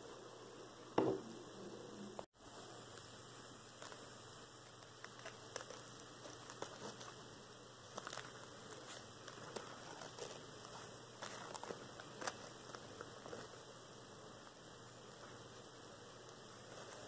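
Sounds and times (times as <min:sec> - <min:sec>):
steady low hiss and hum: 0:00.0 - 0:17.0.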